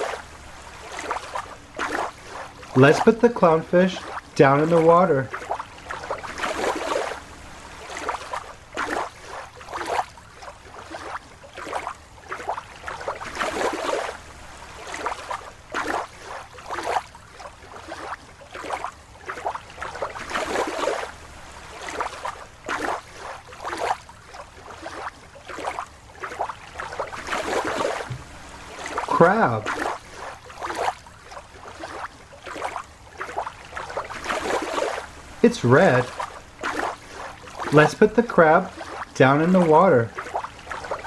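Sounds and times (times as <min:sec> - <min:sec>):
water splashing and sloshing: 0:00.0 - 0:41.0.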